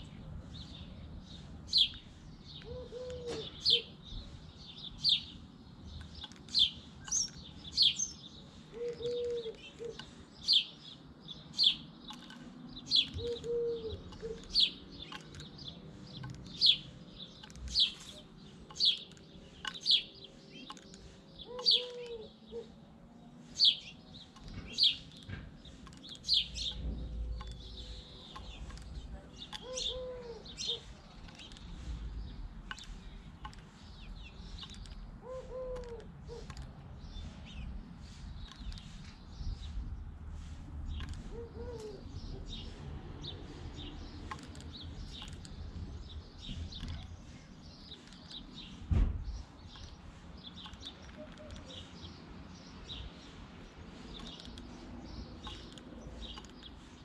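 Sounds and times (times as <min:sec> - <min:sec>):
sparrow chirping: 0:00.0 - 0:22.8, 0:23.4 - 0:57.0.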